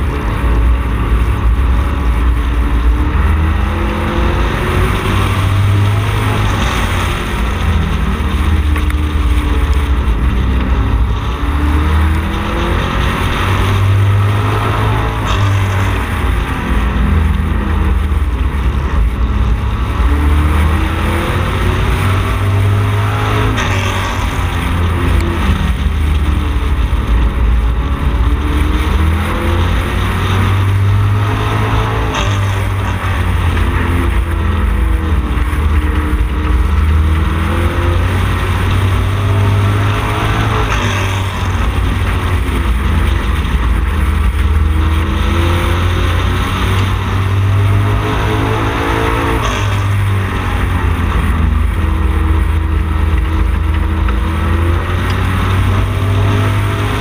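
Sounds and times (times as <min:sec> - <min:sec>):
racing car engine: 0:00.0 - 0:57.0.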